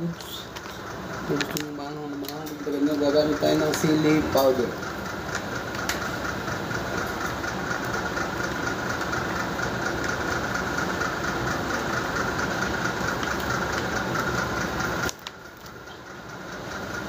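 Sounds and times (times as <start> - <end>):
small motor whining and ticking: 0.0 - 17.0.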